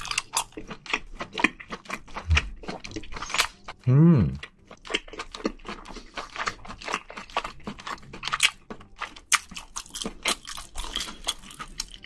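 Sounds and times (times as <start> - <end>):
wet chewing mouth sounds: 0.0 - 12.0.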